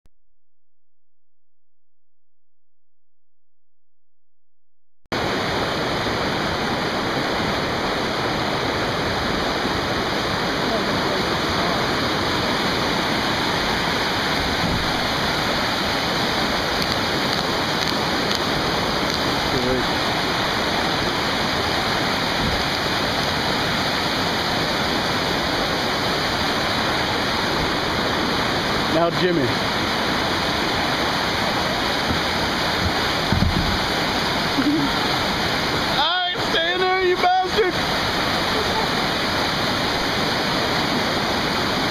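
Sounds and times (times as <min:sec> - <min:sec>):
river water rushing over rocks: 0:05.2 - 0:41.9.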